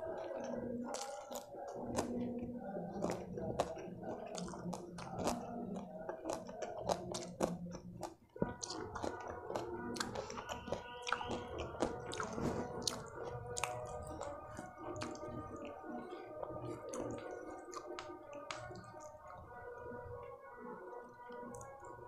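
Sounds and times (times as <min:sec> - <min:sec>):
wet mouth chewing clicks: 0:00.0 - 0:19.9.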